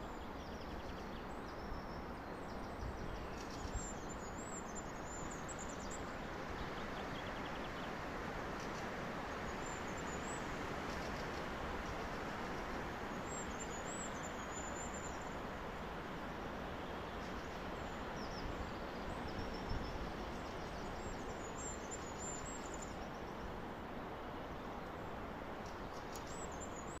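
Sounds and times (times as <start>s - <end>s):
wind through forest trees: 0.0s - 27.0s.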